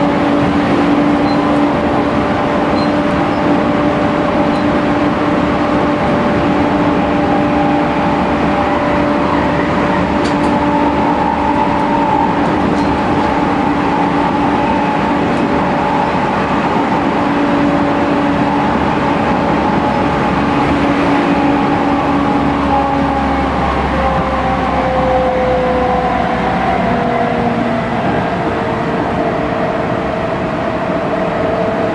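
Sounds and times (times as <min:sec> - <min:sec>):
electric train motor whine: 0:00.0 - 0:31.9
wheel and rail rumble: 0:00.0 - 0:31.9.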